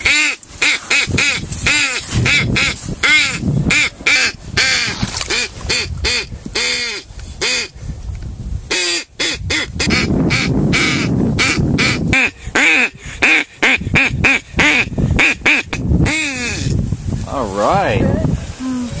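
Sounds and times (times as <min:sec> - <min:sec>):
duck call quacks: 0:00.0 - 0:07.7, 0:08.7 - 0:16.7.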